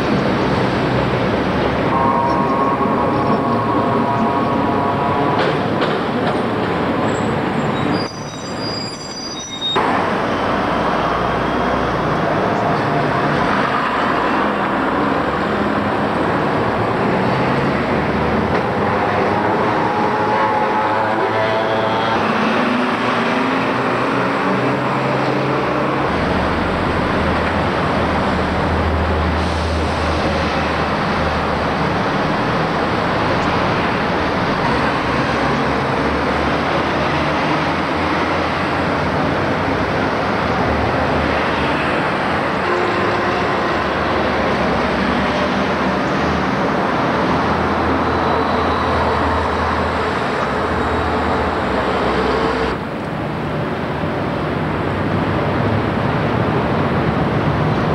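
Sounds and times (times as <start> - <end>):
bus engine rumble: 0.0 - 57.9
road traffic noise: 0.0 - 57.9.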